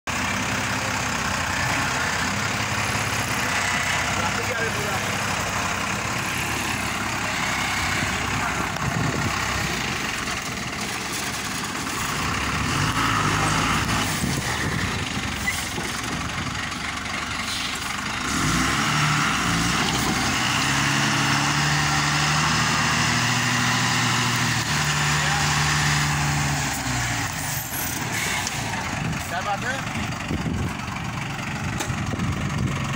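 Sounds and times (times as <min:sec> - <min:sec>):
diesel truck engine running: 0:00.1 - 0:32.9.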